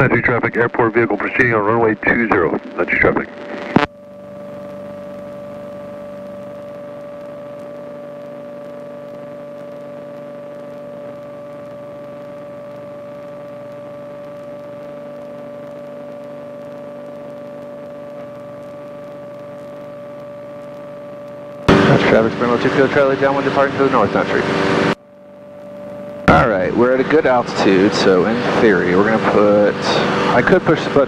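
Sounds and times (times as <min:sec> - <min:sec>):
constant high hum: 0:00.0 - 0:31.0.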